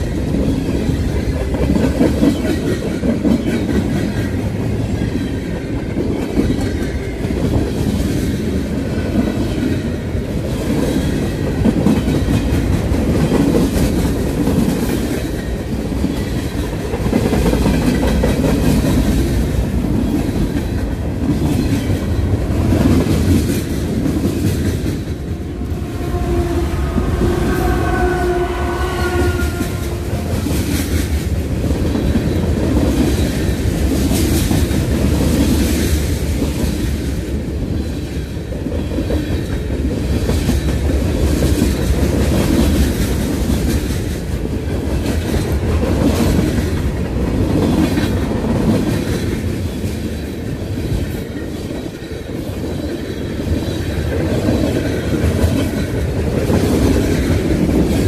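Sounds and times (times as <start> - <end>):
train wheels clicking over rail joints: 0.0 - 25.8, 29.5 - 58.0
diesel locomotive steady tone: 0.0 - 58.0
train cars rumbling and rattling: 0.0 - 58.0.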